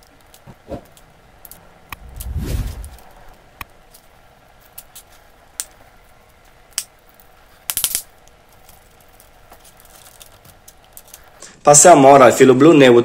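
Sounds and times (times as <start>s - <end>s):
electrical wires rustling and clicking: 0.0s - 11.5s.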